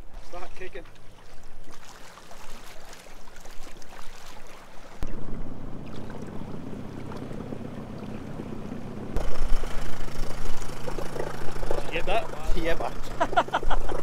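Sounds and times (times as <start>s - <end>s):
water lapping: 0.0s - 14.0s
water splashing around a dinghy: 0.0s - 14.0s.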